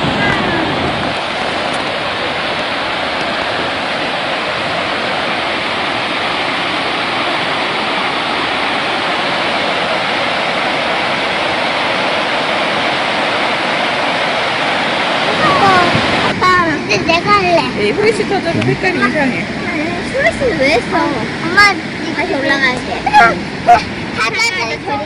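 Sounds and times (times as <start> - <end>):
rush of falling water: 0.0 - 25.0.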